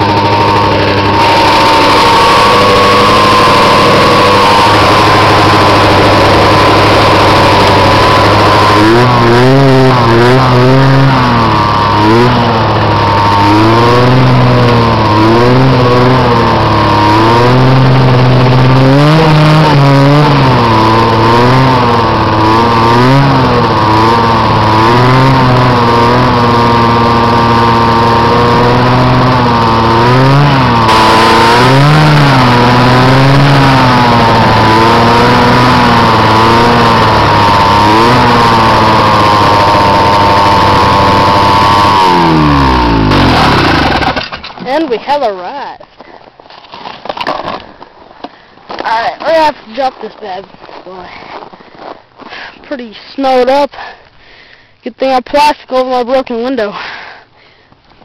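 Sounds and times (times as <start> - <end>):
snowmobile engine revving: 0.0 - 45.8, 48.8 - 51.2, 52.7 - 54.0.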